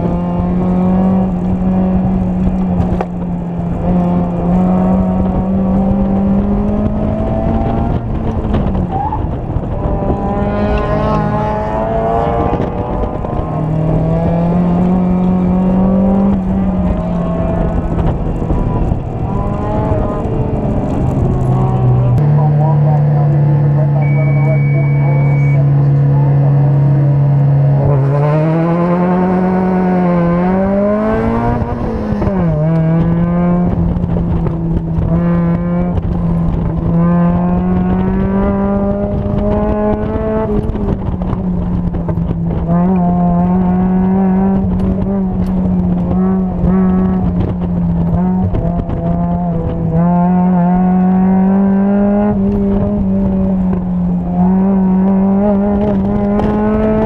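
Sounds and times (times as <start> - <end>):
car engine revving hard: 0.0 - 57.0.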